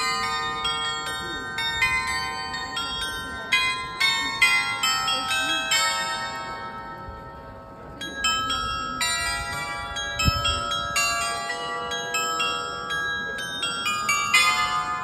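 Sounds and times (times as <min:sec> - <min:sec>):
glockenspiel bells playing tune: 0:00.0 - 0:15.0.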